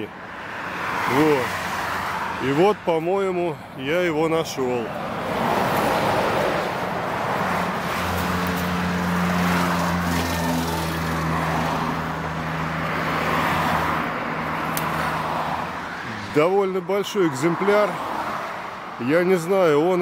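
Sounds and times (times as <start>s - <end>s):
tyre noise of passing traffic: 0.0s - 20.0s.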